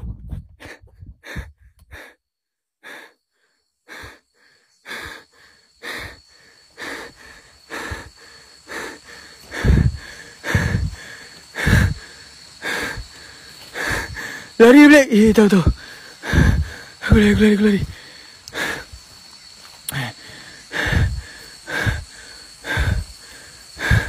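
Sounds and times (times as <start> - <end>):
man panting heavily: 0.0 - 2.2, 2.8 - 24.0.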